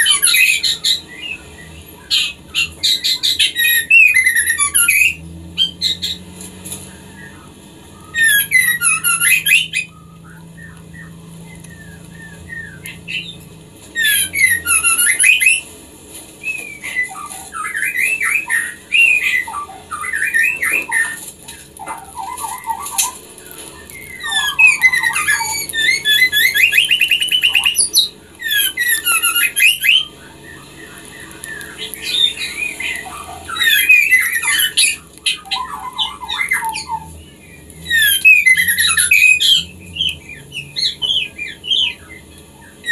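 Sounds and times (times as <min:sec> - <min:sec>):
bird harsh chattering: 0:00.0 - 0:06.2, 0:07.2 - 0:13.4, 0:14.0 - 0:15.6, 0:16.6 - 0:42.9
bird whistles and chirps: 0:00.0 - 0:06.2, 0:06.8 - 0:15.7, 0:16.4 - 0:42.9.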